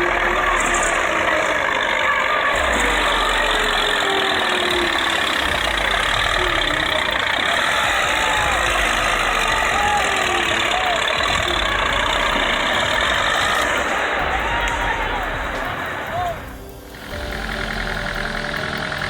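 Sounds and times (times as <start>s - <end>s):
faint voices: 0.0s - 19.0s
tractor engine running: 0.0s - 19.0s.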